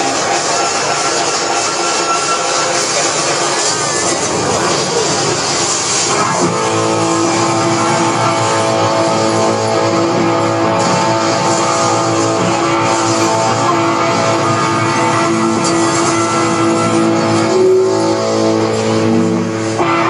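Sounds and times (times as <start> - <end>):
guitar music: 0.0 - 20.0.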